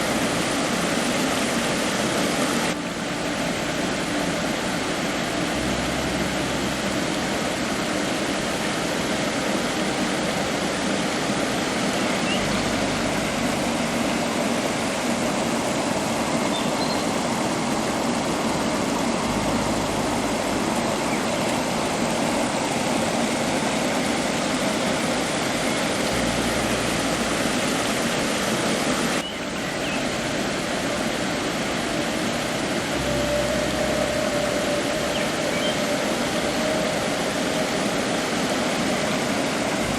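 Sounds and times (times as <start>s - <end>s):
river water and waterfall rushing: 0.0s - 39.9s.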